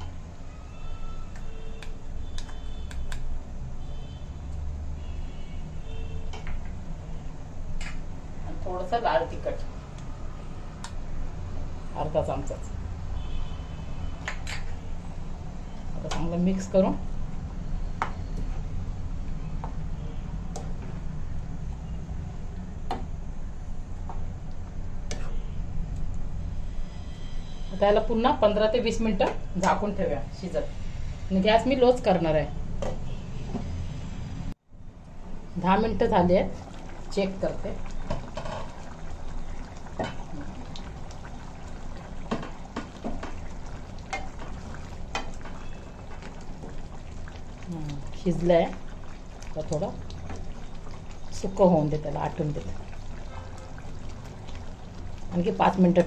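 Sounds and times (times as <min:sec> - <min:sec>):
food bubbling and sizzling in a pan: 0:00.0 - 0:56.0.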